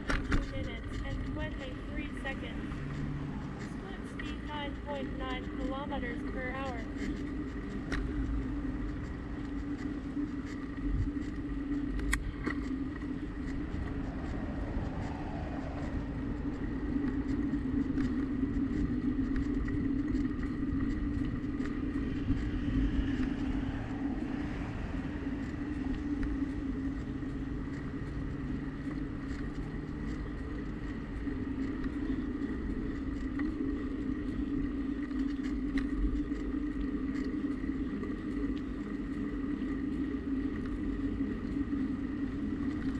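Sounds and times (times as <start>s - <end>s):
constant hum: 0.0s - 42.9s
distant traffic noise: 0.0s - 42.9s
tyre and wind rumble: 0.0s - 42.9s.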